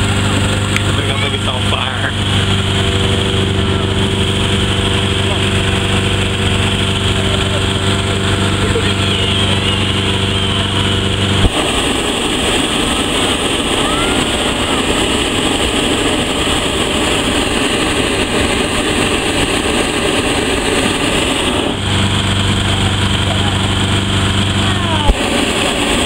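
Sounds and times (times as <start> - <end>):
inflator fan humming: 0.0 - 26.0
propane burner roaring: 0.0 - 26.0.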